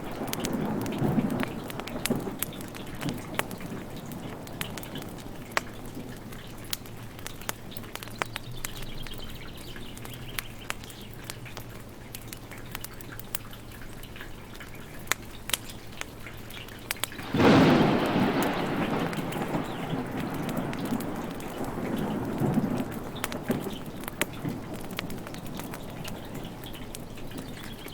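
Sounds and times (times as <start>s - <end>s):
rain hissing: 0.0s - 27.9s
wood fire crackling and popping: 0.0s - 27.9s.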